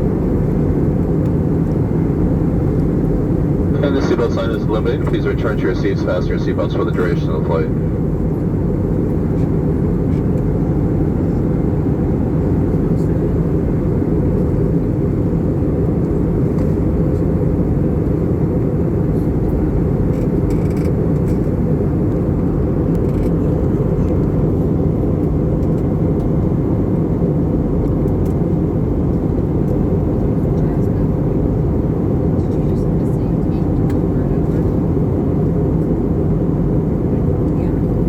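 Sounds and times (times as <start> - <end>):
airplane cabin engine rumble: 0.0 - 38.0.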